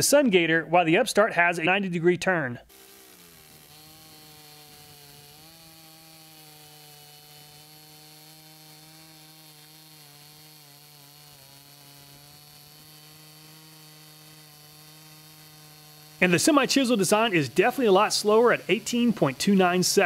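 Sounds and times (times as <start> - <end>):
chainsaw cutting wood: 2.6 - 20.0.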